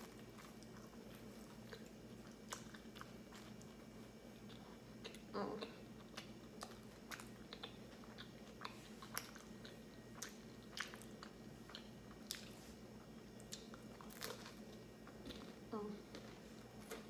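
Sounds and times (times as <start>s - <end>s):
chewing with wet mouth clicks: 0.0s - 17.0s.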